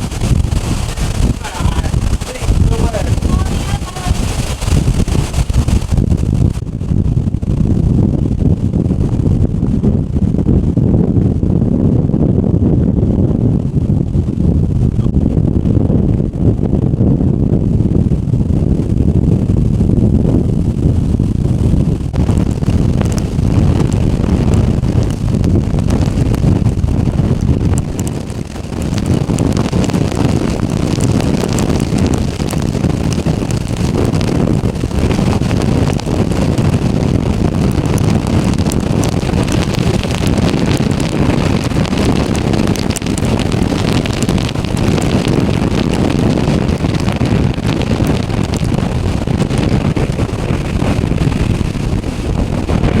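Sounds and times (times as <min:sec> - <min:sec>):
strong wind buffeting microphone: 0:00.0 - 0:53.0.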